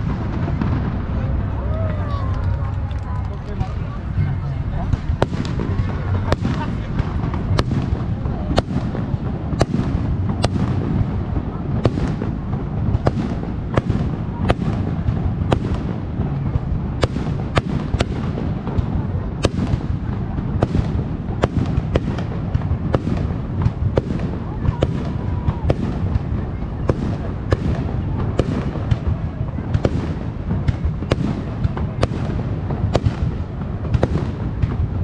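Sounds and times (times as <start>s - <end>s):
continuous low rumble: 0.0s - 35.0s
fireworks bursting with sharp bangs: 0.0s - 35.0s.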